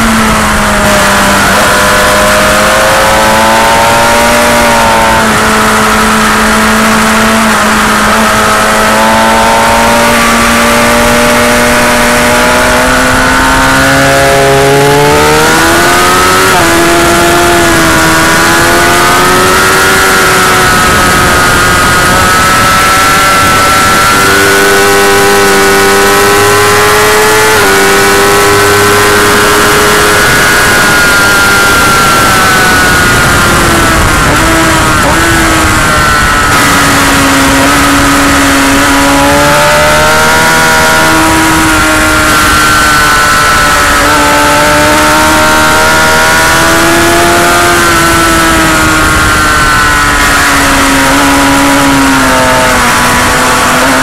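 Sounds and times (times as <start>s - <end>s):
motorcycle engine at high revs: 0.0s - 54.0s
wind noise: 0.0s - 54.0s.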